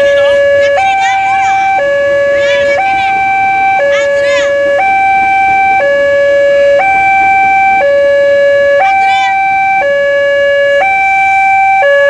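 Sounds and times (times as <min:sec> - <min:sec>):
two-tone hi-lo siren: 0:00.0 - 0:12.0.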